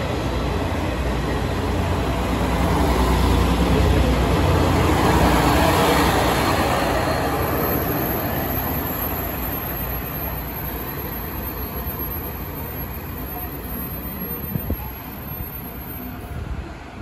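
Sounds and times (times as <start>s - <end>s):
diesel train engines running: 0.0s - 17.0s
train wheels on rails: 0.0s - 17.0s.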